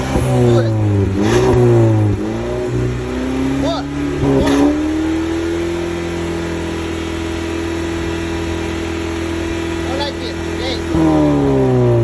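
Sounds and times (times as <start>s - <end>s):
car engine revving steadily: 0.0s - 12.0s
engine whine: 0.0s - 12.0s.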